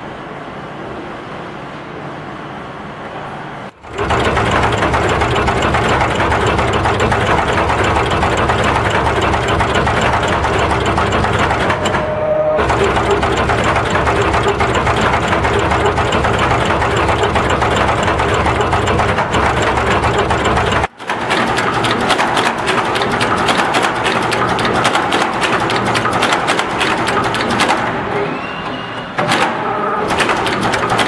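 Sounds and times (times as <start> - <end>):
machine rapid mechanical clatter: 3.7 - 31.0.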